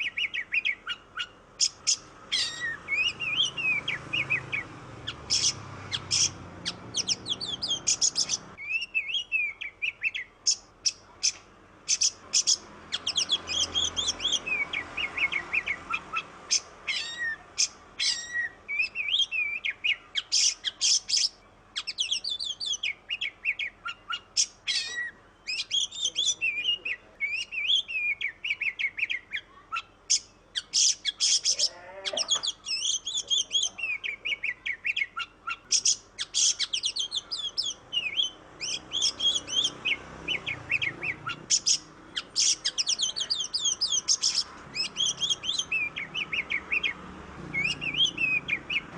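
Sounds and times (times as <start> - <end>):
bird singing varied song: 0.0 - 48.9.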